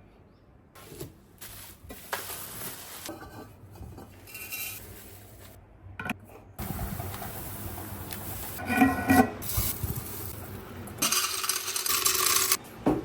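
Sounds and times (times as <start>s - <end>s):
kitchen items rubbing and scraping: 0.8s - 5.6s, 6.6s - 12.6s.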